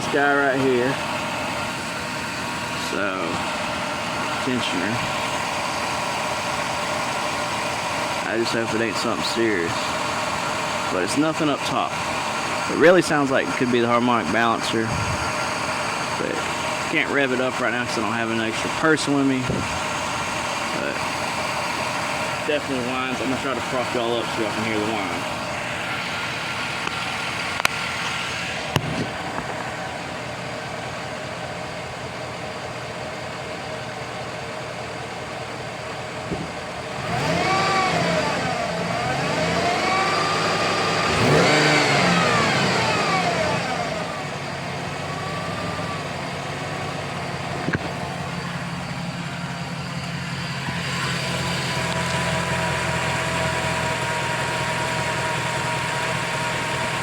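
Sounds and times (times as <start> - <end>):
constant engine whine: 0.0 - 57.0
truck engine running: 0.0 - 57.0.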